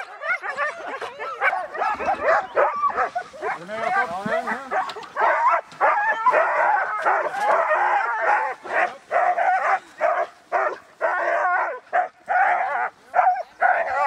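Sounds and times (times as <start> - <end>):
sled dogs barking and yelping: 0.0 - 14.0.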